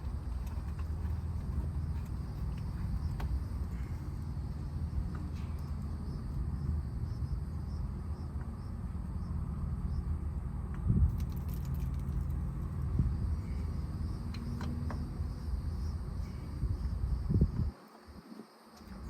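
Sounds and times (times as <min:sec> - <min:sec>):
low outdoor rumble: 0:00.0 - 0:18.2
insect chirping: 0:00.0 - 0:19.0.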